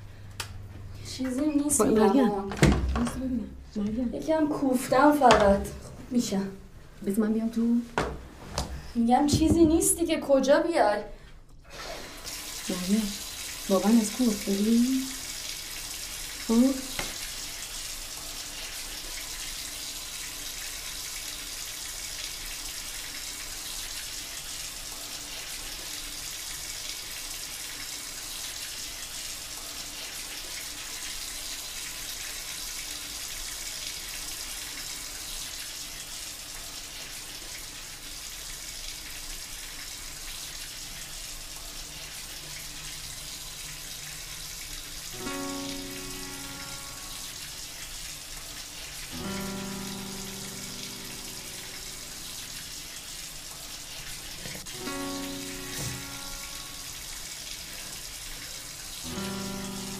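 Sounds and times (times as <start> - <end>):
water running from a tap: 1.1 - 7.8, 8.5 - 10.5, 11.1 - 59.9.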